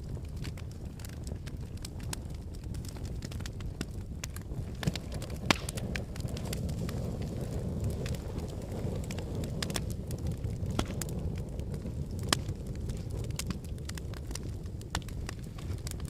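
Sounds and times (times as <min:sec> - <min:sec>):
low rumble of flames: 0:00.0 - 0:16.0
wood fire crackles and pops: 0:00.0 - 0:16.0.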